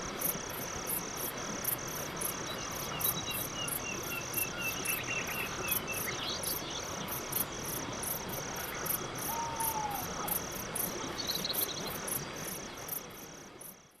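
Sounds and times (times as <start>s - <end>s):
background hiss: 0.0s - 14.0s
crickets chirping: 0.0s - 14.0s.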